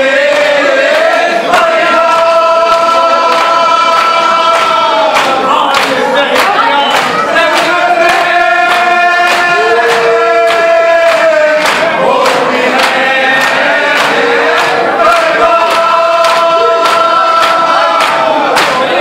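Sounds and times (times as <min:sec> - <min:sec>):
men chanting in unison: 0:00.0 - 0:19.0
hands slapping chests: 0:03.3 - 0:18.9.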